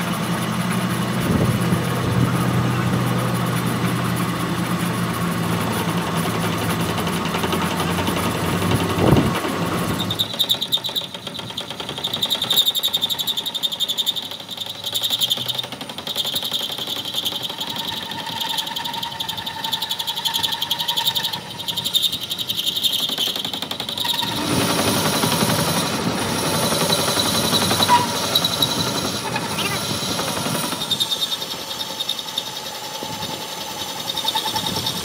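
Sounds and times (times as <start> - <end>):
metal lathe cutting steel: 0.0 - 35.0.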